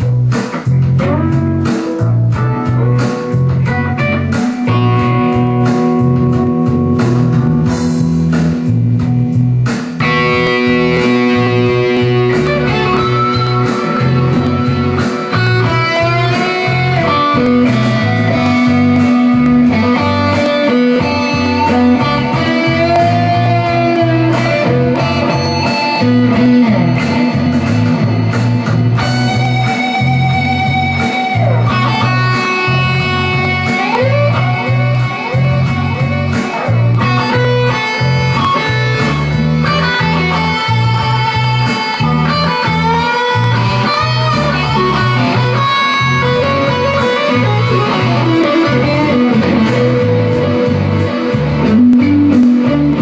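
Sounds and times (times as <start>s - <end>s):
electric guitar playing blues: 0.0s - 53.0s
low bass line: 0.0s - 53.0s.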